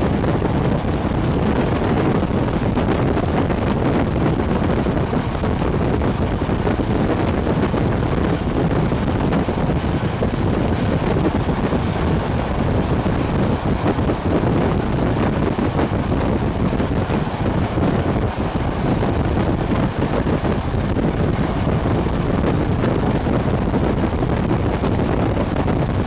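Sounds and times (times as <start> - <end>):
train running rumble: 0.0 - 26.0
wind buffeting microphone: 0.0 - 26.0.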